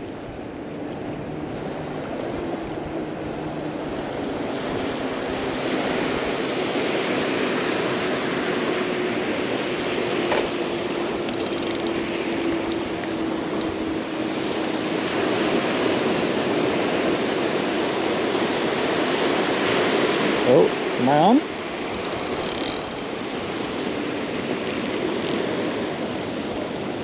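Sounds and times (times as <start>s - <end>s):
ocean surf on rocks: 0.0s - 27.0s.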